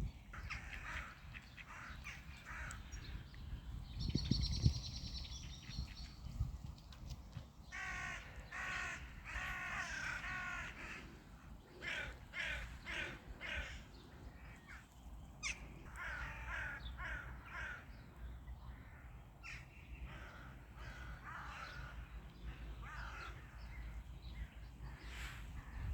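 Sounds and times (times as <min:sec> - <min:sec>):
birds cawing: 0:00.4 - 0:03.3, 0:07.7 - 0:25.9.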